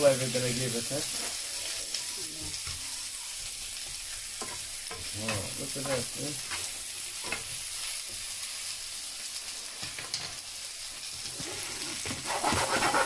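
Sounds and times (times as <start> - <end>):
onion sizzling in a frying pan: 0.0 - 13.0.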